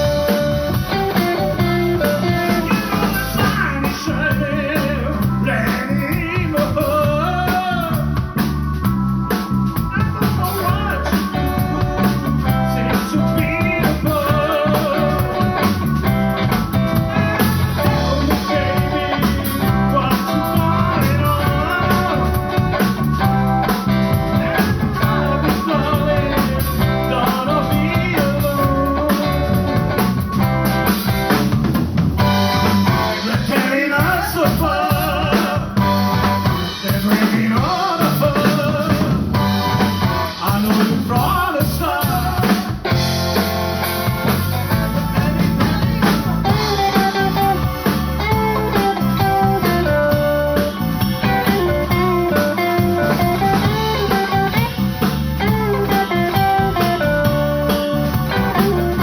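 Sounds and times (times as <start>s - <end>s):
blues guitar with bending notes: 0.0s - 59.0s
drum kit: 0.0s - 59.0s.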